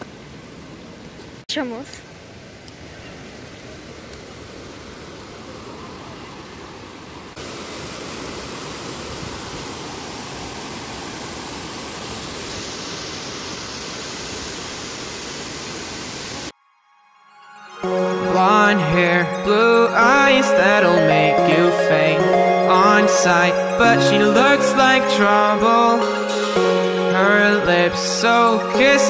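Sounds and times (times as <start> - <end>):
waterfall and river rushing: 2.1 - 16.5, 20.0 - 29.0.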